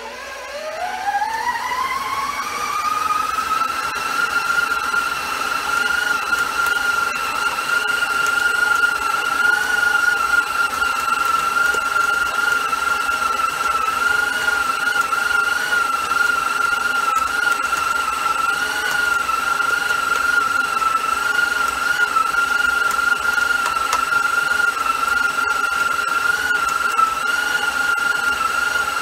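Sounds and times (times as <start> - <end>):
stand mixer motor whining: 0.0 - 29.0
dough hook kneading dough: 1.8 - 29.0.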